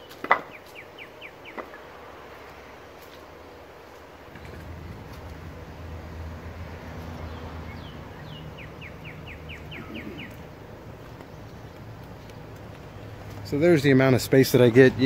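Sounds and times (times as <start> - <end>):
songbird chirping: 0.0 - 14.7.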